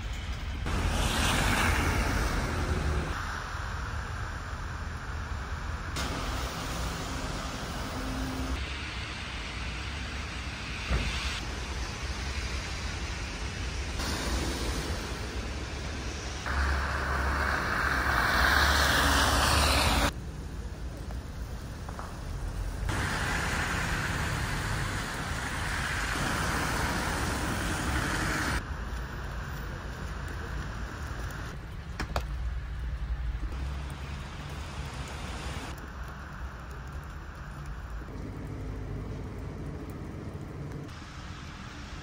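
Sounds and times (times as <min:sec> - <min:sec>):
cars passing with tyre hiss: 0:00.0 - 0:31.6, 0:32.4 - 0:42.0.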